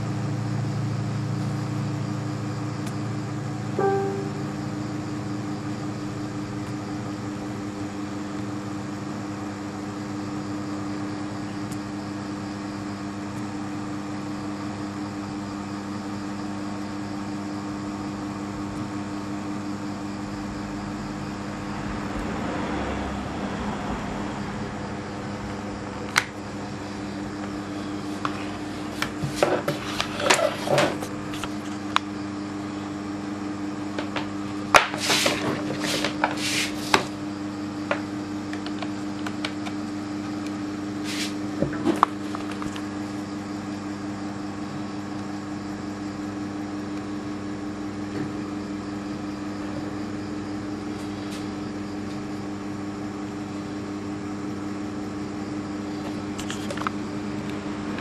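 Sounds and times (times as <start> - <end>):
steady mechanical hum: 0.0 - 58.0.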